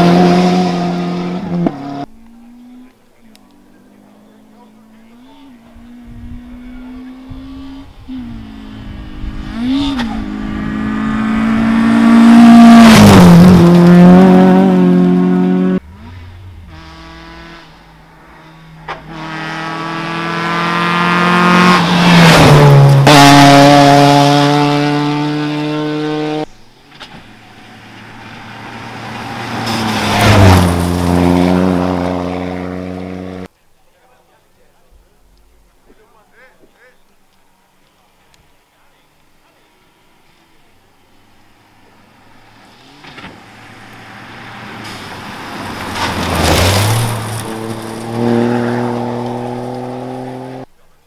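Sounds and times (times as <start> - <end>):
rally cars passing at full throttle: 0.0 - 33.5, 39.6 - 50.7.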